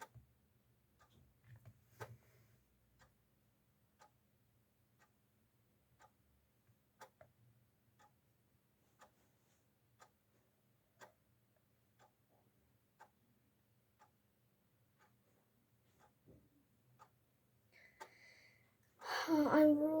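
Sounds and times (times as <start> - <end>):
faint clock ticking: 0.0 - 20.0.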